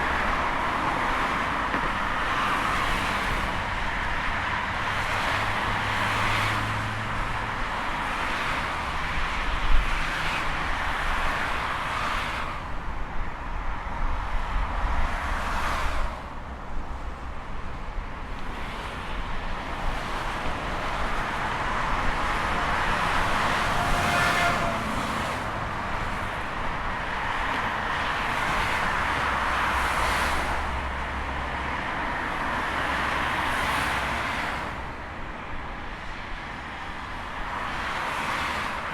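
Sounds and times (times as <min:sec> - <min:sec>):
cars passing on highway: 0:00.0 - 0:38.9.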